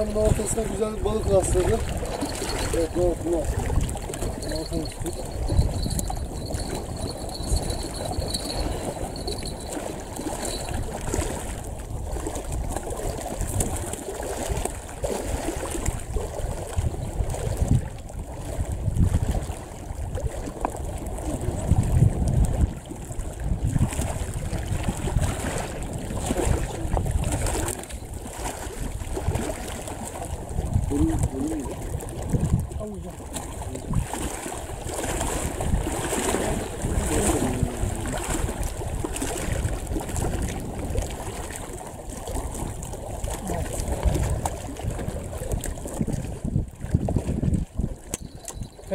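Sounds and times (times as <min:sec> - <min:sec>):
small waves lapping on rocks: 0:00.0 - 0:48.9
wind rumbling on microphone: 0:00.0 - 0:48.9.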